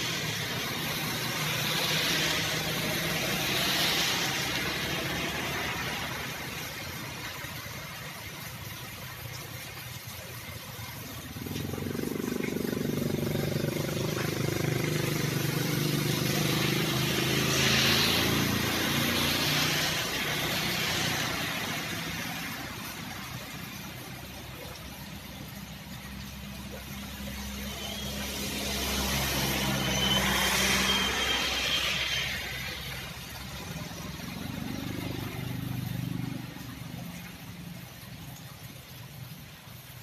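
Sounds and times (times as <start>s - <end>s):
motorcycles riding past: 0.0s - 7.7s, 11.1s - 39.5s
rain hissing: 0.0s - 40.0s
tyres hissing through water: 0.0s - 40.0s.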